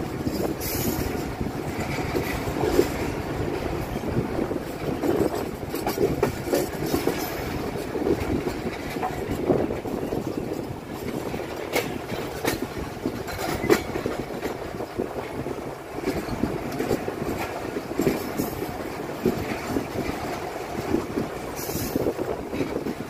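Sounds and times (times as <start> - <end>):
train rumble: 0.0 - 23.0
train wheels knocking over rail joints: 0.0 - 23.0.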